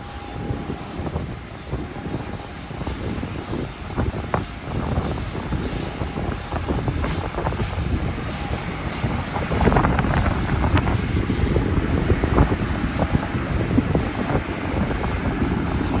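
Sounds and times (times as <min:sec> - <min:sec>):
jet airliner rumble: 0:00.0 - 0:16.0
wind buffeting microphone: 0:00.0 - 0:16.0.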